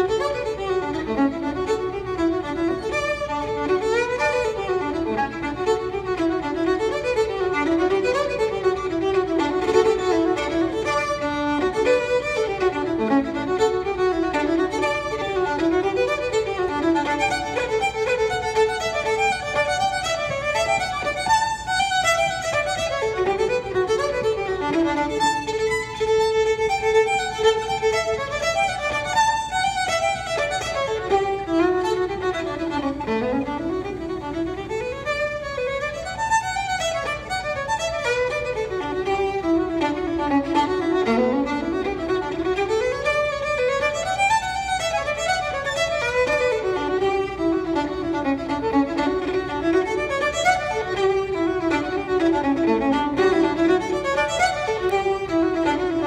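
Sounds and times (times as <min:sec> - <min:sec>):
fiddle playing lively tune: 0:00.0 - 0:56.0.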